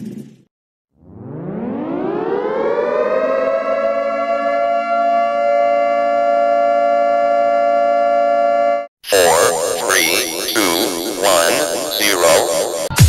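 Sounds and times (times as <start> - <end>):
siren-like wail: 1.0 - 12.9.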